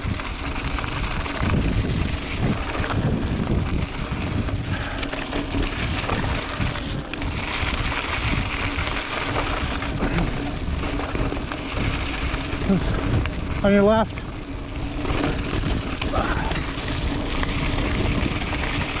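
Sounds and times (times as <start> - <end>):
bike tyres rolling on dirt trail: 0.0 - 19.0
wind buffeting microphone: 0.0 - 19.0.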